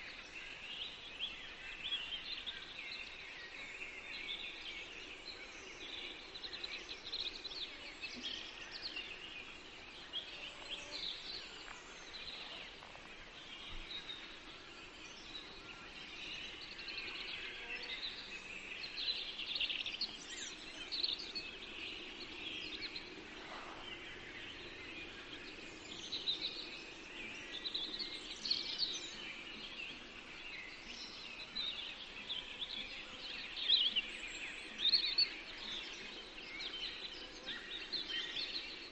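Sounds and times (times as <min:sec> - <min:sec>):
birds chirping and trilling: 0:00.0 - 0:38.9
faint background hiss: 0:00.0 - 0:38.9.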